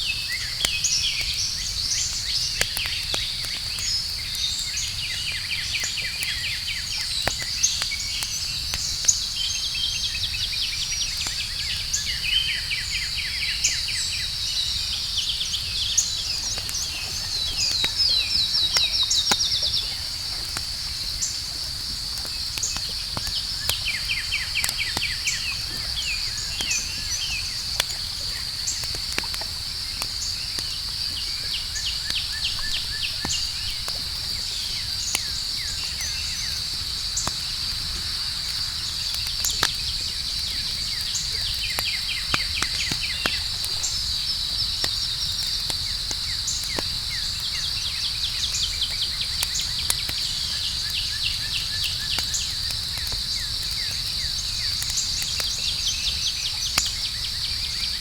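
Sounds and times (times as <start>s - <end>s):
campfire crackling and popping: 0.0s - 58.0s
cricket chorus: 0.0s - 58.0s.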